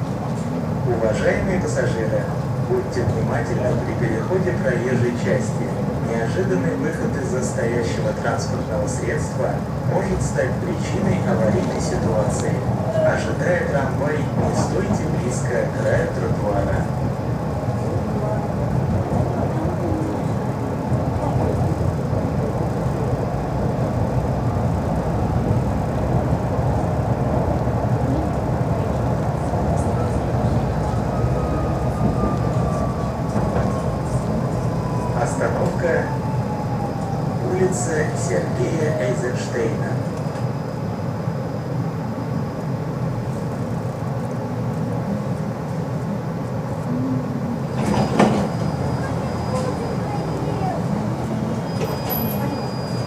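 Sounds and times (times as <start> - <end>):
tram wheels rumbling on rails: 0.0 - 53.0.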